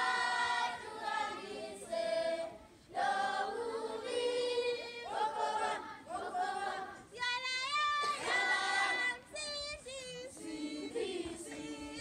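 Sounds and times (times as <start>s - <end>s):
children singing together: 0.0s - 7.1s, 7.7s - 12.0s.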